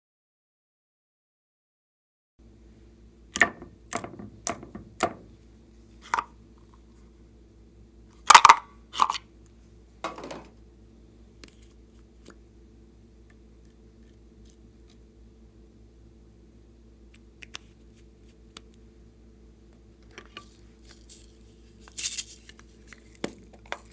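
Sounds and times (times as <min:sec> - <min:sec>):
low steady hum: 0:02.4 - 0:23.9.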